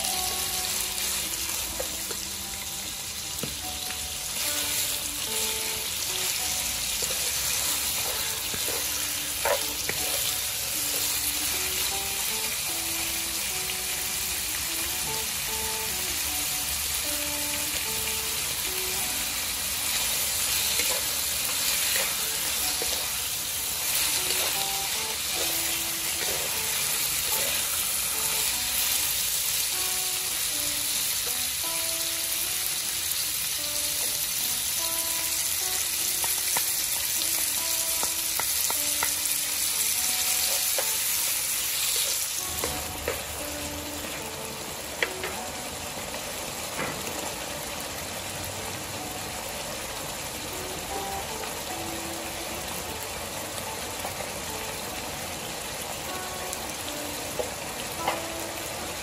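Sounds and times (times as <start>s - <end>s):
meat sizzling in a wok: 0.0s - 59.0s
soft background music: 0.0s - 59.0s.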